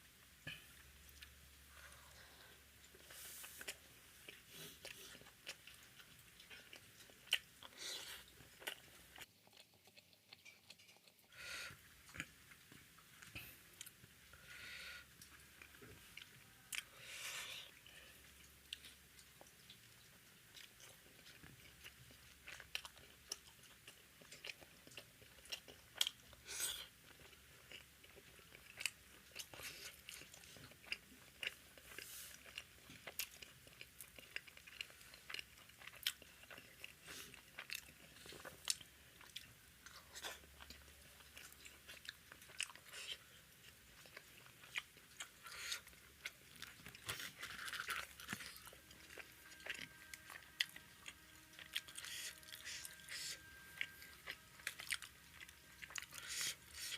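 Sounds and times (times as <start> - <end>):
person chewing food: 0.2 - 56.9.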